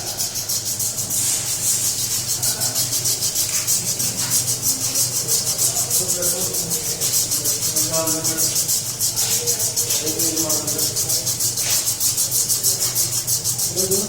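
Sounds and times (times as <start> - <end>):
sandpaper rubbing brake lining: 0.0 - 14.0.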